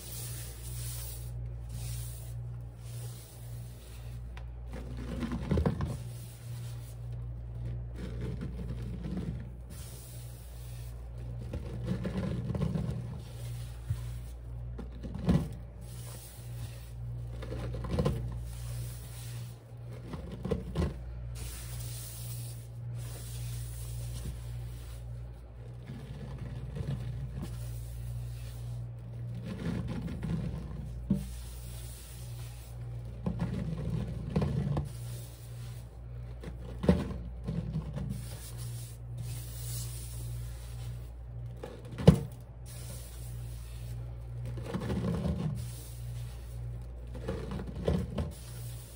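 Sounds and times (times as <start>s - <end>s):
sponge rubbing and squishing: 0.0s - 48.9s
steady low hum: 0.0s - 48.9s.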